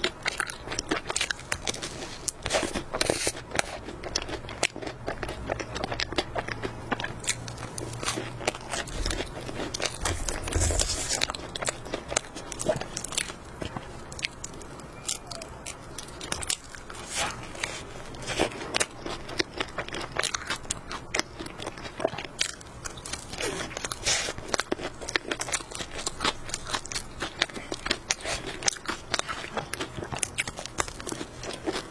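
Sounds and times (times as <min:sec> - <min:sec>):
crunchy pastry chewing: 0:00.0 - 0:31.9.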